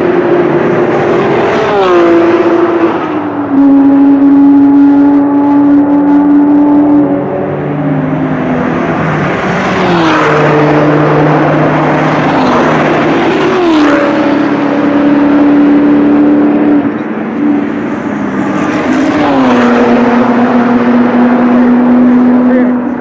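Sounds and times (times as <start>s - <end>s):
racing cars passing at speed: 0.0s - 23.0s.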